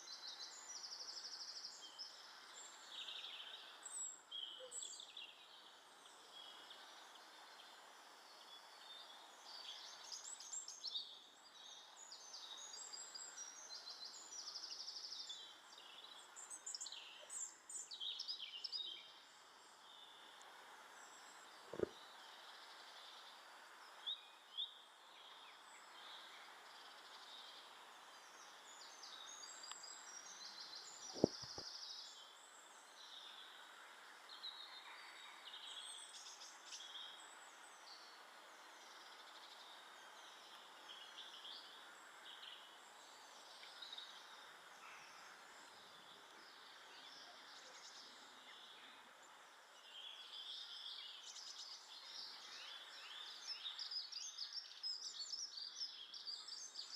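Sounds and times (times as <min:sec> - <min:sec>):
steady hiss: 0:00.0 - 0:55.5
small birds chirping: 0:00.0 - 0:56.9.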